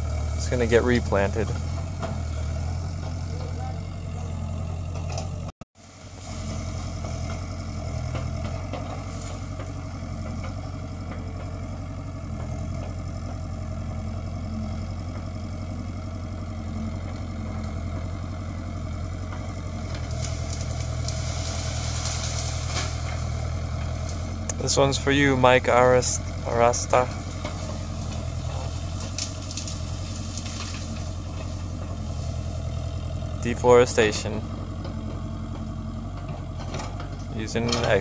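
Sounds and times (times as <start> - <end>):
excavator diesel engine droning: 0.0 - 38.0.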